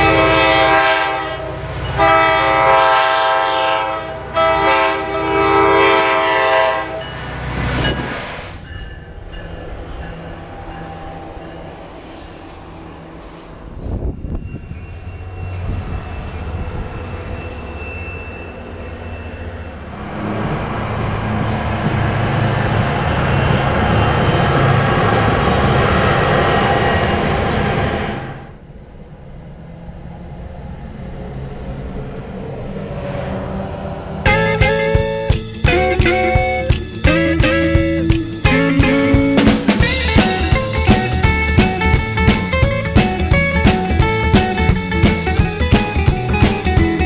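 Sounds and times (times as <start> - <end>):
train passing: 0.0 - 47.0.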